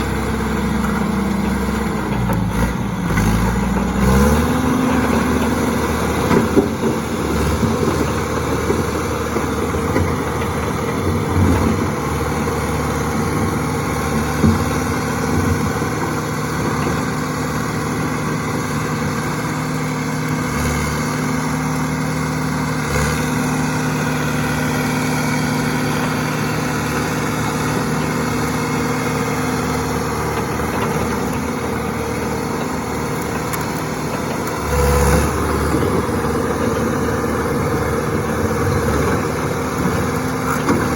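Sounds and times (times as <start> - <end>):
diesel engine idling: 0.0 - 20.5, 21.2 - 40.9.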